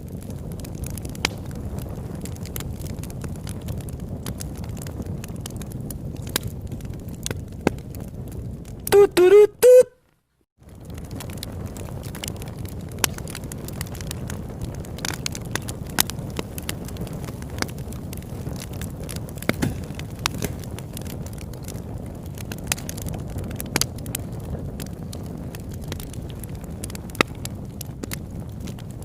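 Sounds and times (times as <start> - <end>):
low rush of flames: 0.0 - 9.0, 10.6 - 29.0
campfire wood crackling and popping: 0.0 - 29.0.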